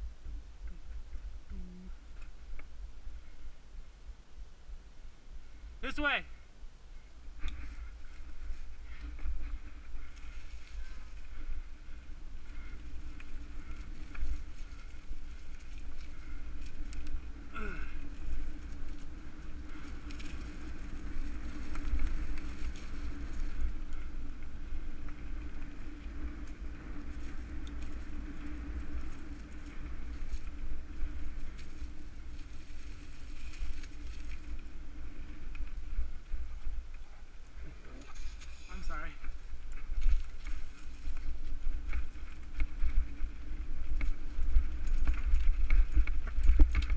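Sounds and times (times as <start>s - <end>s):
wind rumble on microphone: 0.0s - 46.9s
bike rattling on dirt: 7.3s - 46.9s.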